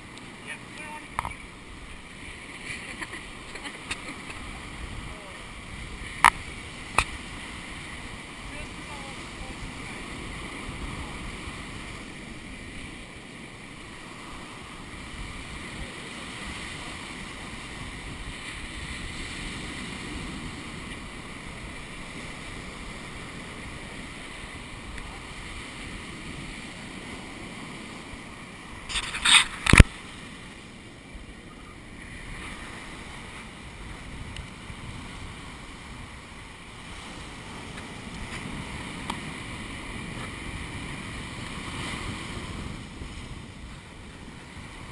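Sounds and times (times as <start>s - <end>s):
surf: 0.0s - 44.9s
wind: 0.0s - 44.9s.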